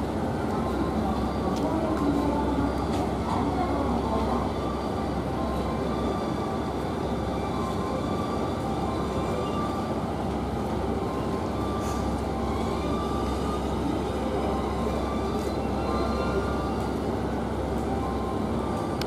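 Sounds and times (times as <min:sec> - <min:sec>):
train machinery rumble and hum: 0:00.0 - 0:19.0.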